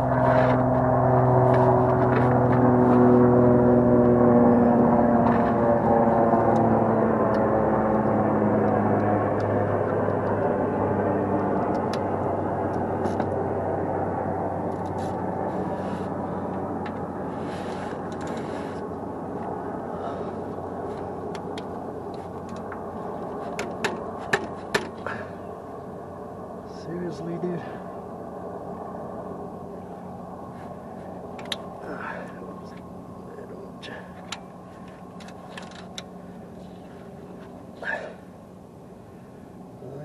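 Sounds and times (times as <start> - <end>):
ringing hum: 0.0 - 39.8.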